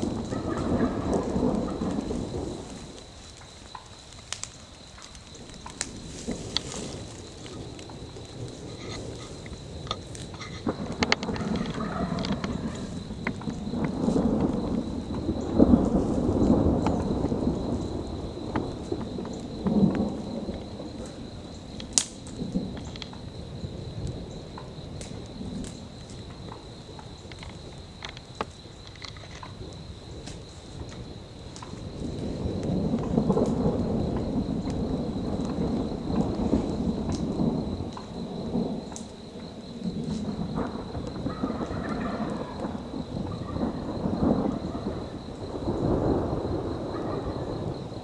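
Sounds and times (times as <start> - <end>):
rain falling: 0.0 - 48.0
thunder rumbling: 0.0 - 48.0.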